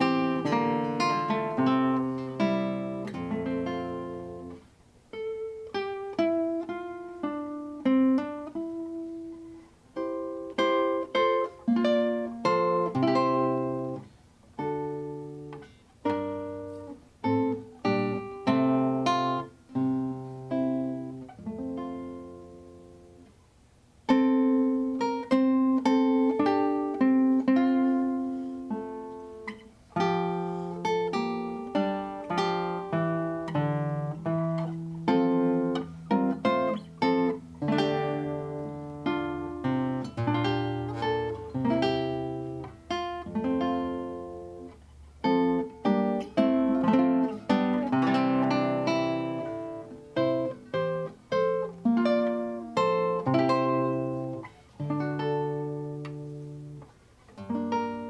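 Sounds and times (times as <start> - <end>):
classical guitar playing: 0.0 - 58.0.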